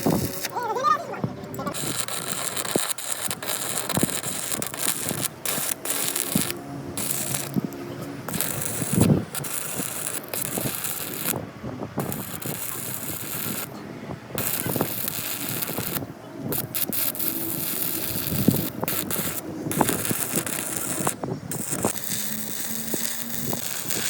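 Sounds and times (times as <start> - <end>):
noisy background: 0.0 - 24.0.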